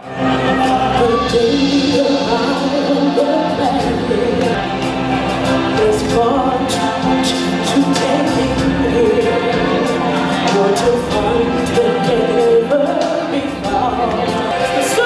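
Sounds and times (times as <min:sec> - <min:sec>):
band playing stage music: 0:00.0 - 0:15.0
choir singing: 0:00.0 - 0:15.0.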